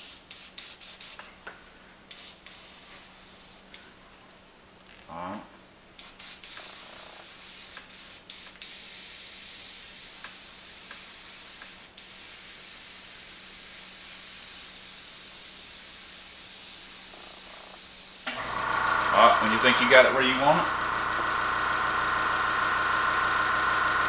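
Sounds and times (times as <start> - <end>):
airbrush hissing: 2.1 - 4.0, 6.0 - 24.0.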